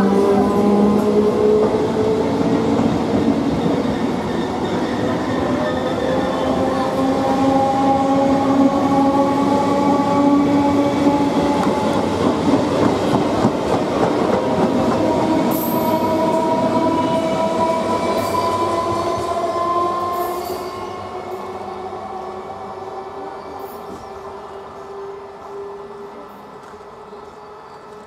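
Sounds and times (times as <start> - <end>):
train wheel and rail noise: 0.0 - 28.0
train whine: 0.0 - 28.0.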